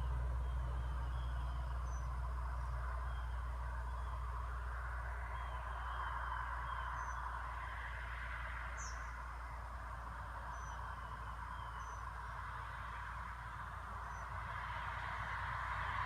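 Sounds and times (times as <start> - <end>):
diesel truck engine rumbling: 0.0 - 16.0.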